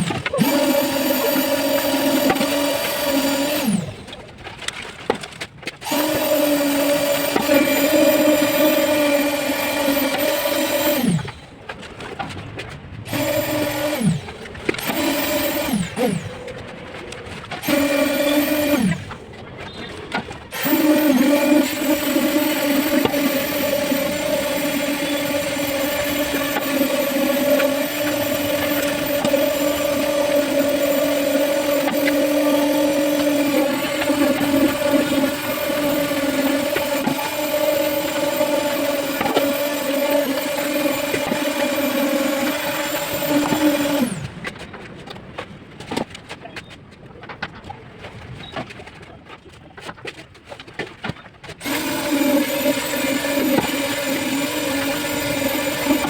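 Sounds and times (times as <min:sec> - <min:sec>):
power tool motor whining: 0:00.0 - 0:04.3, 0:05.8 - 0:11.7, 0:13.0 - 0:44.6, 0:51.6 - 0:56.0
faint clicks and knocks: 0:00.0 - 0:56.0.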